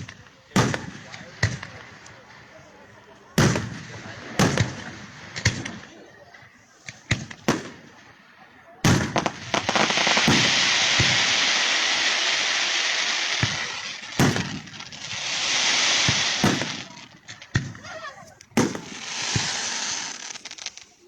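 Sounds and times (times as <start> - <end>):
firework bangs: 0.0 - 21.0
firework crackling: 0.0 - 21.0.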